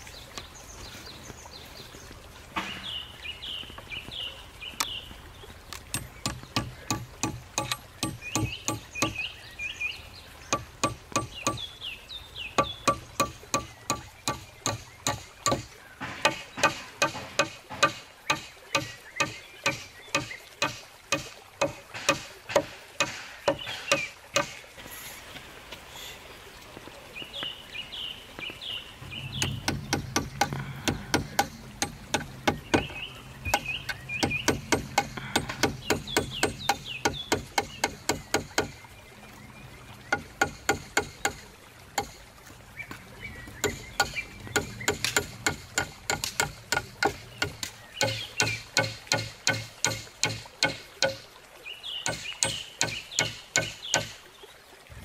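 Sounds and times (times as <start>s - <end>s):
birds chirping: 0.0s - 54.7s.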